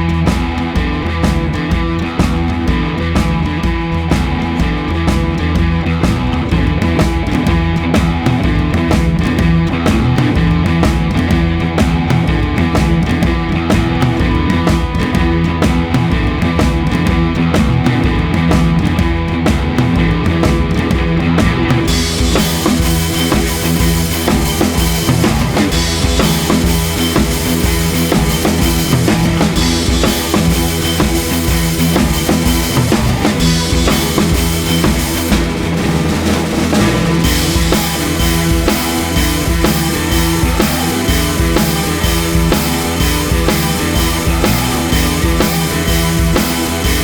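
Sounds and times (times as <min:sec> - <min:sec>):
rock music with drums and bass: 0:00.0 - 0:47.0.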